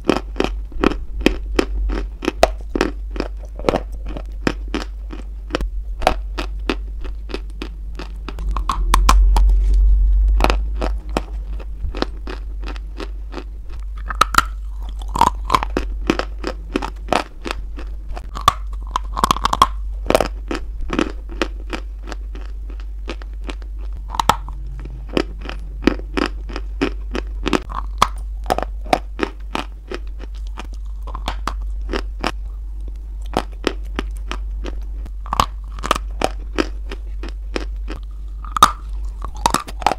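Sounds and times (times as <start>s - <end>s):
chewing with sharp crunches: 0.0s - 39.9s
constant low hum: 0.0s - 39.9s
low rumble: 0.0s - 39.9s.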